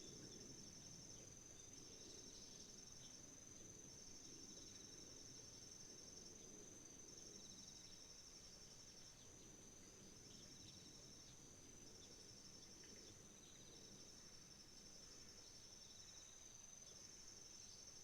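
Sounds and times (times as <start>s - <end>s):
intermittent insect trill: 0.0s - 18.0s.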